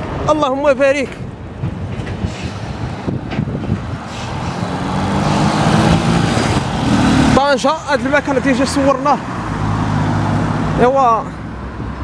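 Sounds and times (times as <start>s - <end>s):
road traffic: 0.0s - 12.0s
heavy truck engine: 1.1s - 12.0s.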